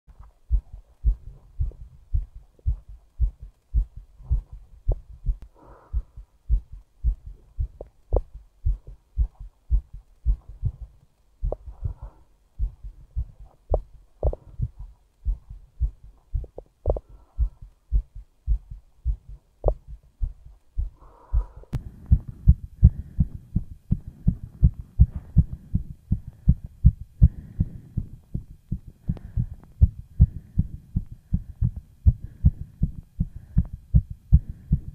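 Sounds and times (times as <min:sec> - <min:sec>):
heartbeat thumps: 0:00.1 - 0:34.9.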